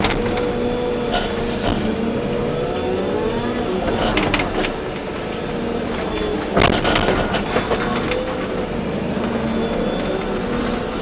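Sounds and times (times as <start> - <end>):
clattering knocks: 0.0 - 11.0
excavator engine and hydraulics humming: 0.0 - 11.0.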